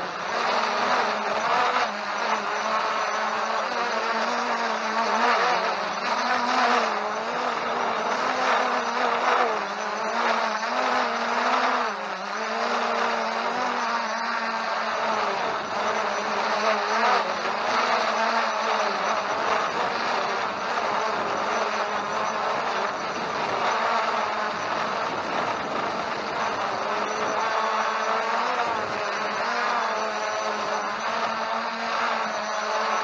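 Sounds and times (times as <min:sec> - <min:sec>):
drone propellers buzzing: 0:00.0 - 0:33.0.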